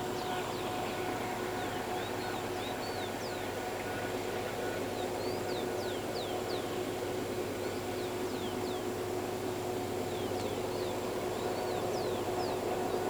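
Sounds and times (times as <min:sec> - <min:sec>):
distant diesel locomotives droning: 0:00.0 - 0:13.0.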